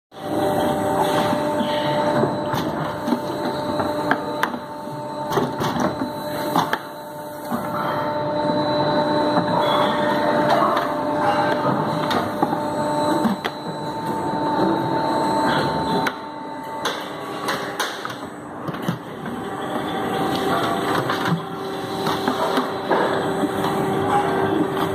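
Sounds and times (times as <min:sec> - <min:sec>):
moulding machine humming: 0:00.2 - 0:24.9.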